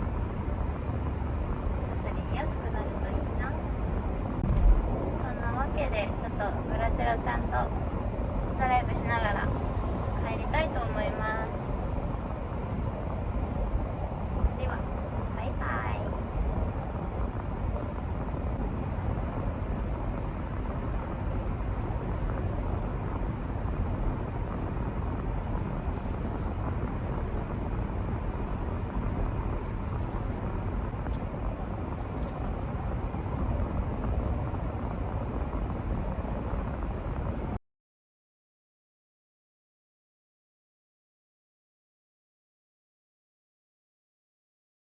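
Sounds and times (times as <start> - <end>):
car road and engine rumble: 0.0 - 37.6.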